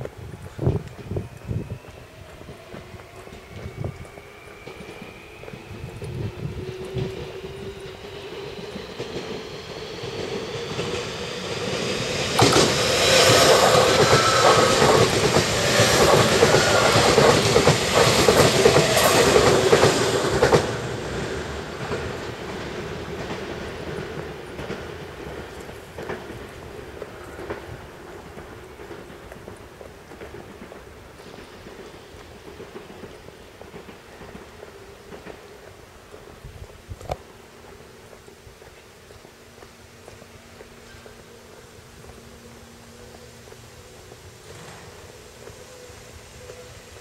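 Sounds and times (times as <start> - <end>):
electric train passing: 0.0 - 47.0.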